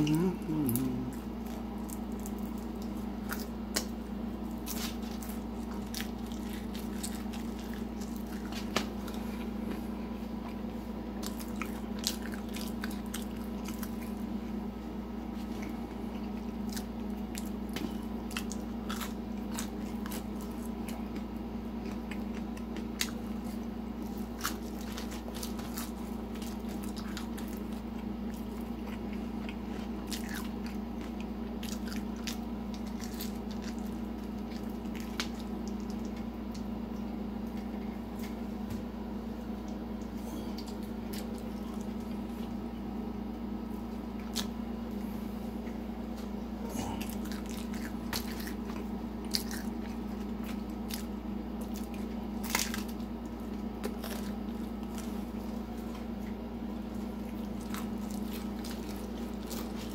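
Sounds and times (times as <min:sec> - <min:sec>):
chewing and crunching pizza: 0:00.0 - 0:59.9
steady low hum: 0:00.0 - 0:59.9.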